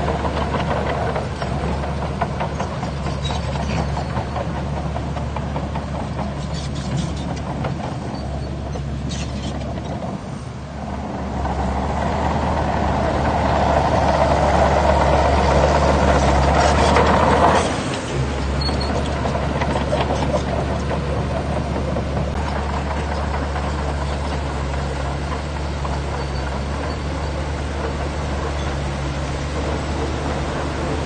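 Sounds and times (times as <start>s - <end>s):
diesel earthmoving machinery running: 0.0s - 31.0s.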